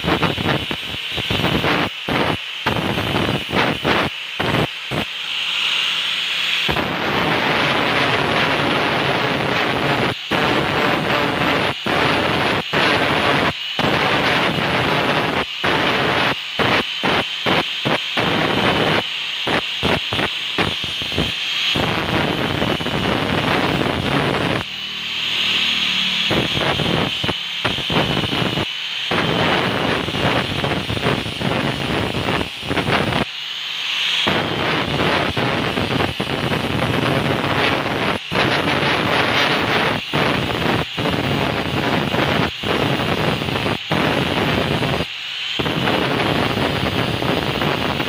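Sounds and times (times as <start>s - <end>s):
angle grinder grinding metal: 0.0s - 48.0s.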